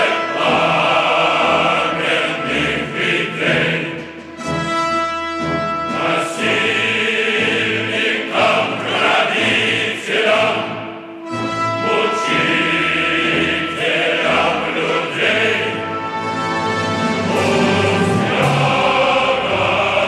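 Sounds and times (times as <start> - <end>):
choir singing held notes: 0.0 - 4.6, 5.4 - 20.0.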